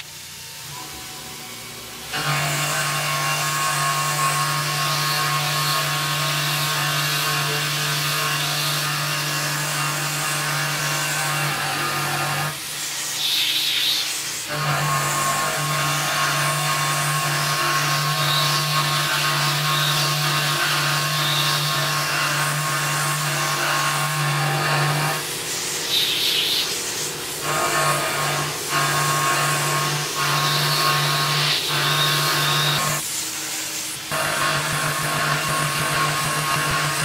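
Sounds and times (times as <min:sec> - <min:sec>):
end mill cutting metal: 0:00.0 - 0:37.0.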